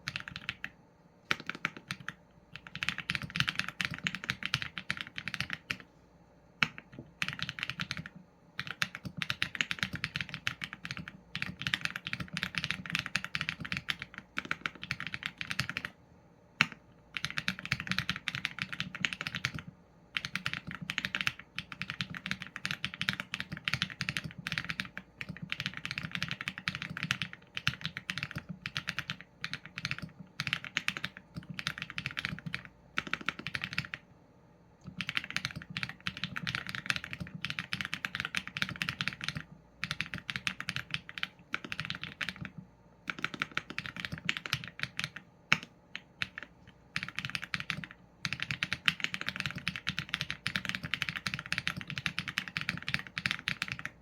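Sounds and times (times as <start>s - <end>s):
mechanical keyboard typing: 0.0s - 5.9s, 6.6s - 16.0s, 16.6s - 34.0s, 34.8s - 54.0s.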